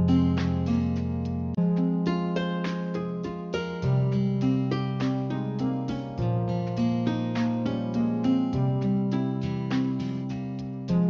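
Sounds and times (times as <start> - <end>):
plucked acoustic guitar tune: 0.0 - 11.0.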